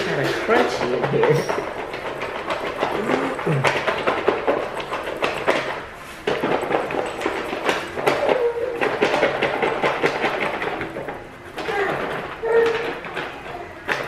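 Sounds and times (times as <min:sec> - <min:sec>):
food rattling in foil container: 0:00.0 - 0:14.0.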